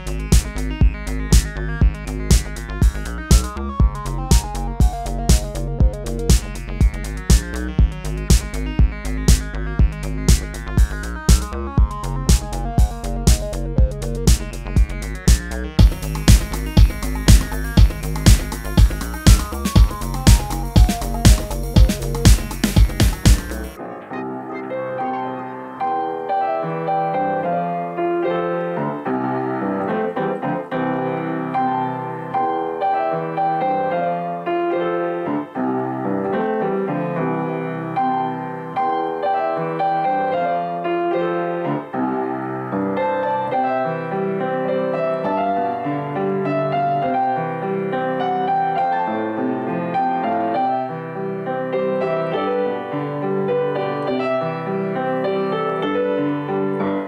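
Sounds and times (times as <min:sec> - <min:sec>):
solo piano melody: 0:00.0 - 0:57.0.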